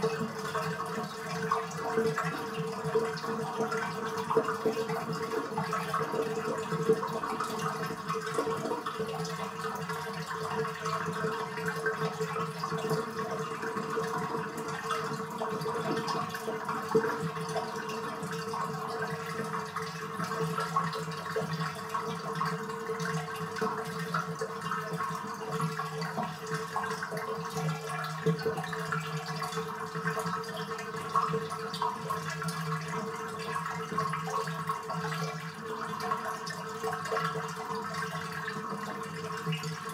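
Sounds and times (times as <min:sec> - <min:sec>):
water running down drain: 0:00.0 - 0:39.9.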